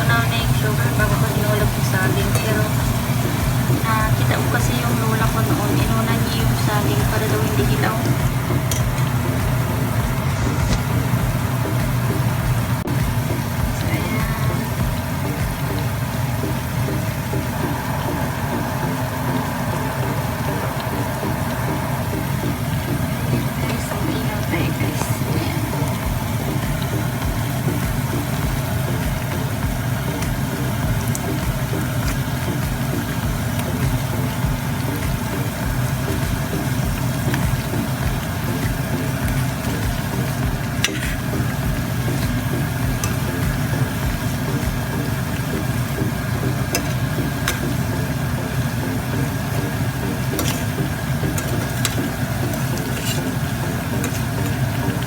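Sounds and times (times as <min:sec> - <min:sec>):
bananas sizzling in oil: 0:00.0 - 0:55.0
constant low hum: 0:00.0 - 0:55.0
low droning motor: 0:00.0 - 0:55.0.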